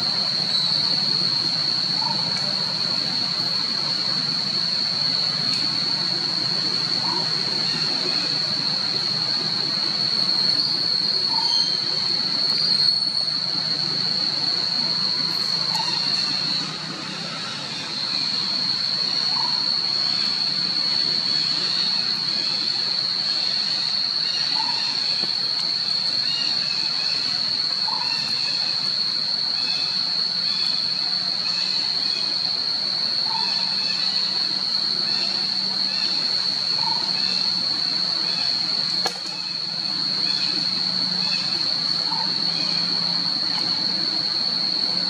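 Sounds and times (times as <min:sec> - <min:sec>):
cicadas droning: 0:00.0 - 0:45.0.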